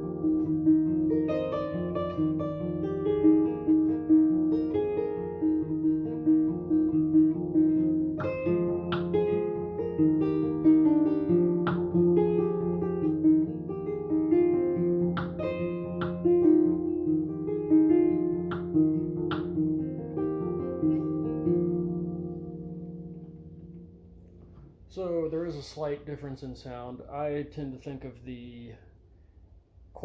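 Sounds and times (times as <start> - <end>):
harp-lute plucked solo: 0.0 - 26.1.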